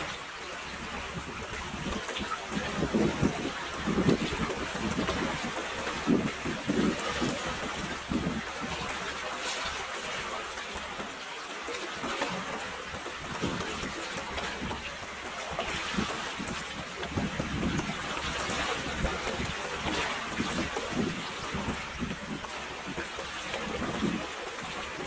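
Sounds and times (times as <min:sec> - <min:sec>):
wind buffeting microphone: 0:00.0 - 0:09.8, 0:13.2 - 0:25.0.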